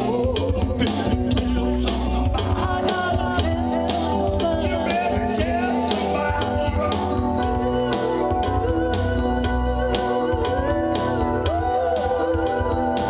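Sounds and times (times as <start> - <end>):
guitar-like backing: 0.0 - 13.0
keyboard accompaniment: 0.0 - 13.0
man and woman singing: 0.0 - 13.0
steady beat: 0.0 - 13.0.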